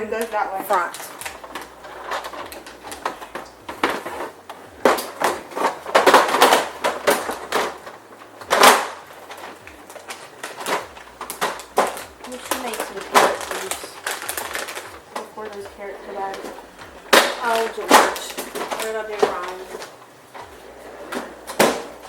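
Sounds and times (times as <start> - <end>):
plastic drawer clattering and scraping: 0.1 - 22.0.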